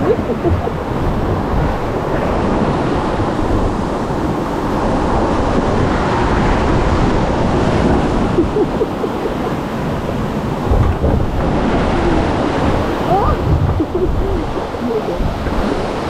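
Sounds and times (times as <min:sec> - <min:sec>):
whitewater rushing: 0:00.0 - 0:16.0
wind buffeting microphone: 0:00.0 - 0:16.0.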